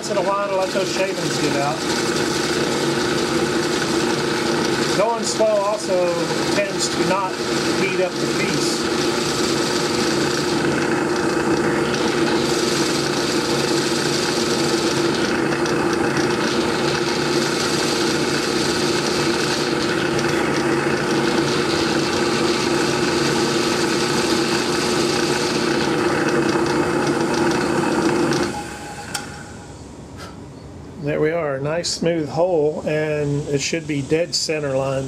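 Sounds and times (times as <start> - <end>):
drill bit boring into wood: 0.0 - 29.3
drill press motor running: 0.0 - 29.8.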